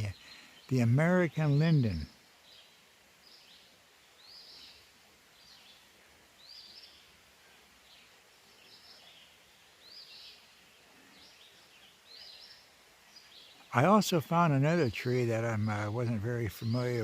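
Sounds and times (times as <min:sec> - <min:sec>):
faint songbird chirping: 0:00.0 - 0:17.0
quiet outdoor background noise: 0:00.0 - 0:17.0.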